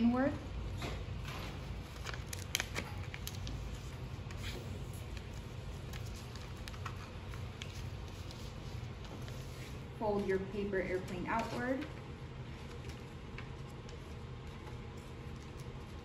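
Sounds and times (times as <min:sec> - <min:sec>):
steady low hum: 0:00.0 - 0:16.0
paper being folded and creased: 0:01.6 - 0:09.8, 0:11.4 - 0:16.0.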